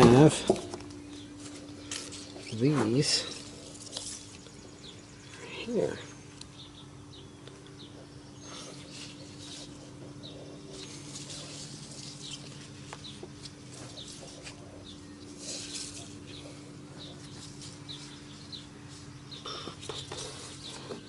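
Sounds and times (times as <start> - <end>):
steady low hum: 0.0 - 21.0
small birds chirping: 0.1 - 21.0.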